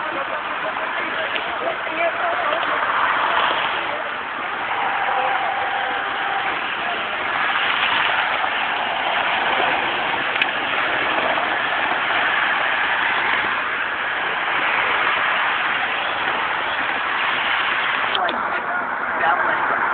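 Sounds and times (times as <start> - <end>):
highway traffic roar: 0.0 - 19.9.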